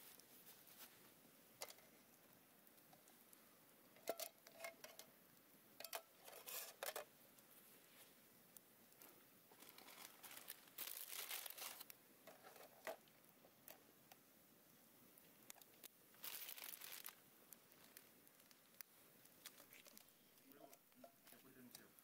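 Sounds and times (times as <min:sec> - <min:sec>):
faint crinkling and rustling: 0:00.0 - 0:05.2, 0:05.8 - 0:14.3, 0:15.0 - 0:22.0.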